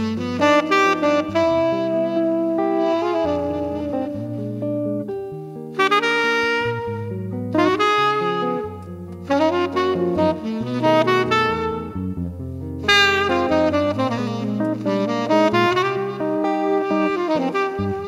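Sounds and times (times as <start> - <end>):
electric guitar accompaniment: 0.0 - 18.0
tenor saxophone jazz melody: 0.0 - 18.0.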